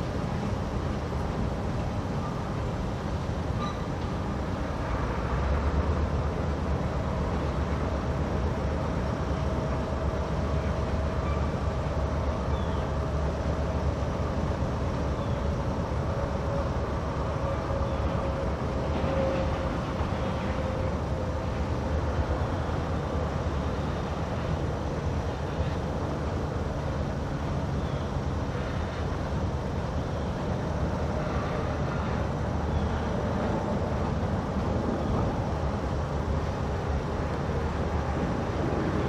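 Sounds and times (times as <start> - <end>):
diesel locomotive droning: 0.0 - 39.0.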